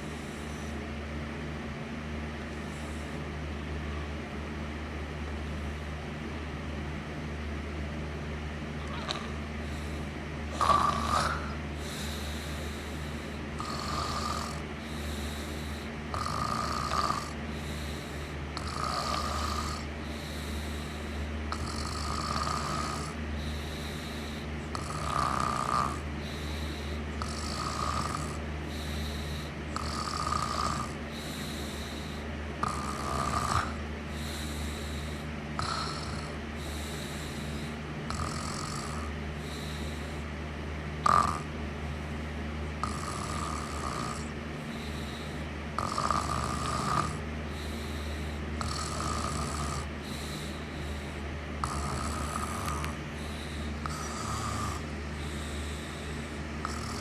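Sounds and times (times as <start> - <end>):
steady low hum: 0.0 - 57.0
person snoring: 8.8 - 40.3, 41.0 - 41.5, 42.8 - 57.0.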